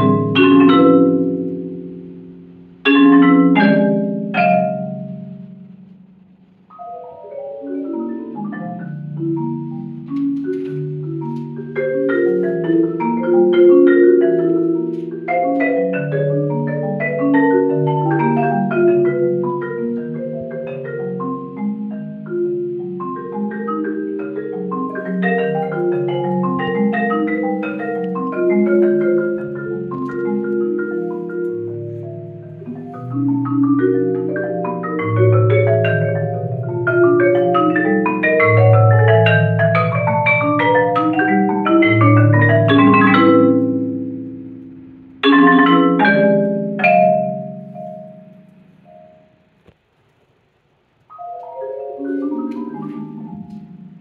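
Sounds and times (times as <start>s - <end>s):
marimba played with mallets: 0.0s - 49.7s, 51.1s - 54.0s.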